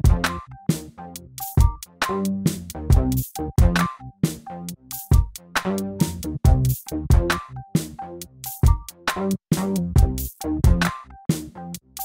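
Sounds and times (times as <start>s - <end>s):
electronic music with drum machine: 0.0s - 12.0s.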